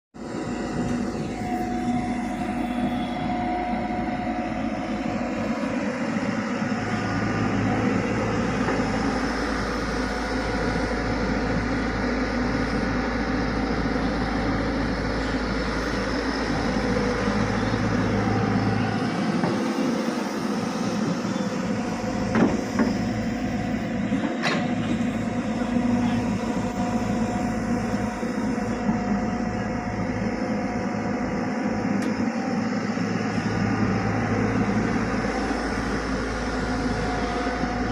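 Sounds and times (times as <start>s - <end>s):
excavator running: 0.2s - 37.9s.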